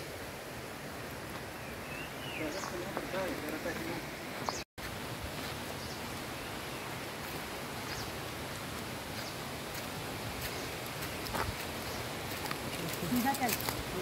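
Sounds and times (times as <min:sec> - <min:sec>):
wind through trees: 0:00.0 - 0:14.0.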